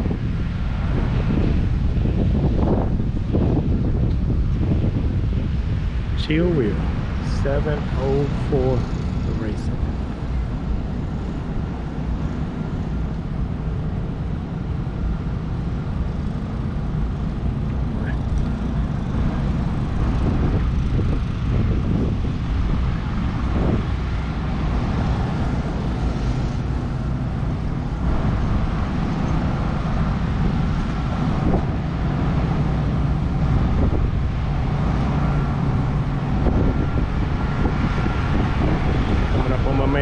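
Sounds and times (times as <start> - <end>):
car engines rumbling: 0.0 - 40.0.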